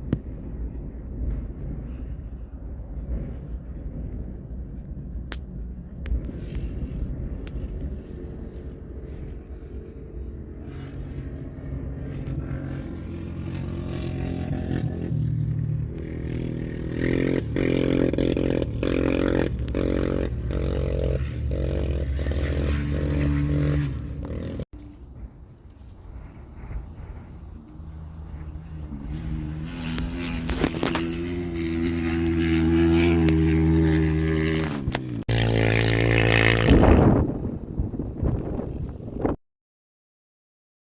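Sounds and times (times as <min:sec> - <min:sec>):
motorcycle engine revving: 0:06.0 - 0:39.4.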